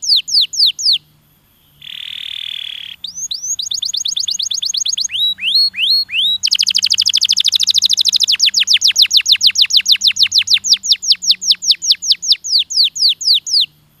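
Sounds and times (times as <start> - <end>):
canary singing: 0.0 - 13.8.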